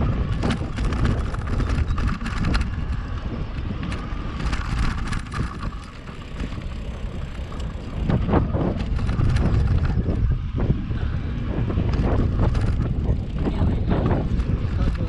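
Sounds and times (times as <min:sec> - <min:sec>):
bike bumps and rattles: 0:00.0 - 0:15.0
tyre rumble: 0:00.0 - 0:15.0
wind buffeting microphone: 0:00.0 - 0:15.0.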